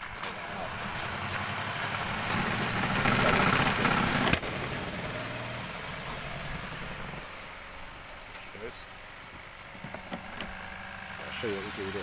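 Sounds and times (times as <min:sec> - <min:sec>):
washing machine motor humming: 0:00.5 - 0:12.0.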